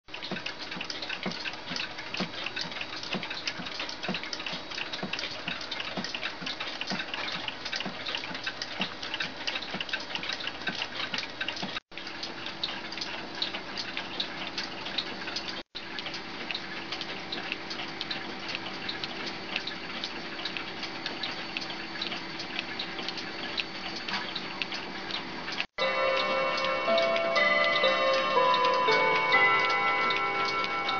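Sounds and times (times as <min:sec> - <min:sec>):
electric clock ticking: 0:00.1 - 0:30.9.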